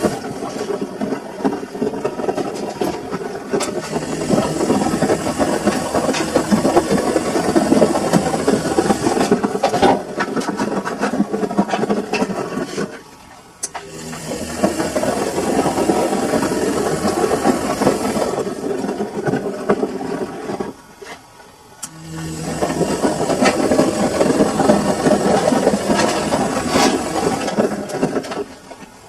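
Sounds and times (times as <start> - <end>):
washing machine drum tumbling: 0.0 - 13.0, 13.7 - 20.8, 21.9 - 28.8.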